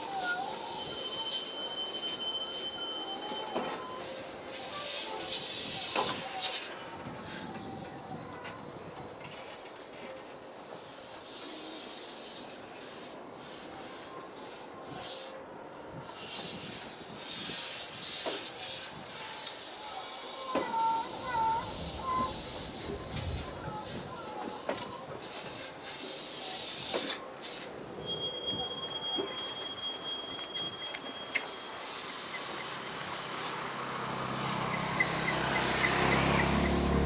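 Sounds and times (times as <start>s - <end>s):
train wheels squealing on rails: 0.0s - 37.0s.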